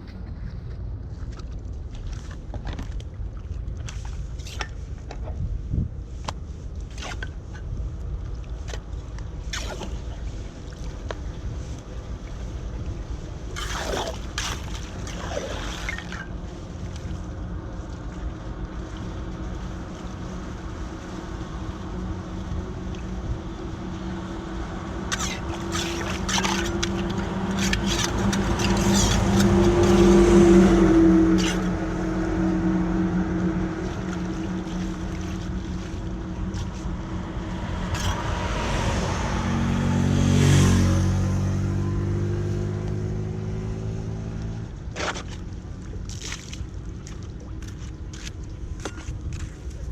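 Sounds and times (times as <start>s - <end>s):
engine running: 8.6s - 49.8s.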